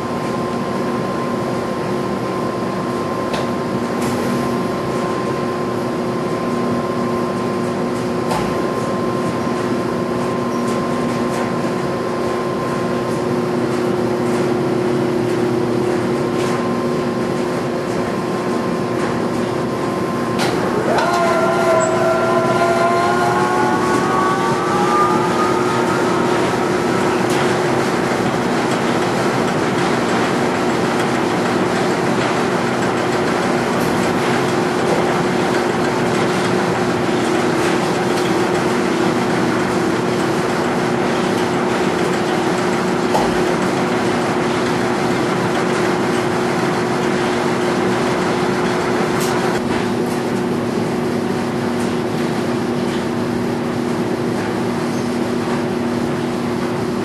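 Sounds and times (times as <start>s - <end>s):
dryers running: 0.0s - 57.0s
washing machine spinning: 0.0s - 57.0s.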